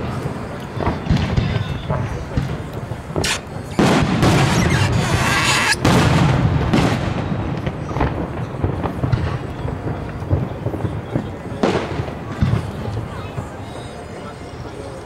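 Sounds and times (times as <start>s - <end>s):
firework shells bursting: 0.0s - 13.6s
firework crackle: 0.0s - 15.0s.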